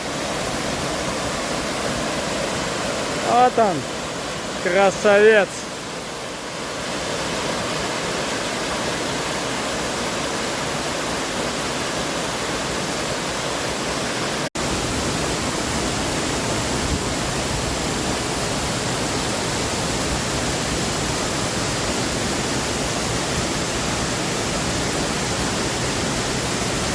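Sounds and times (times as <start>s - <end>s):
small waterfall rushing: 0.0s - 26.9s.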